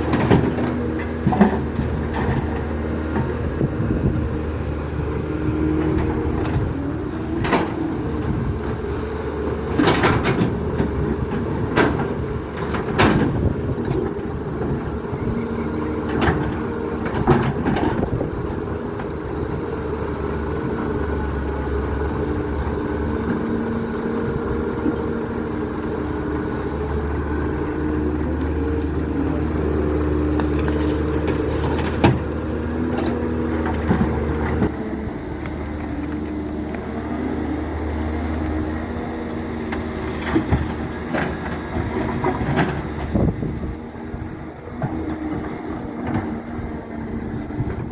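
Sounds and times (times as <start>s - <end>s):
diesel engine running under load: 0.0s - 47.9s.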